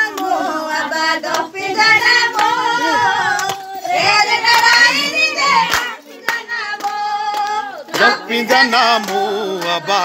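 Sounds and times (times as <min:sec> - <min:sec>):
group of people singing: 0:00.0 - 0:10.0.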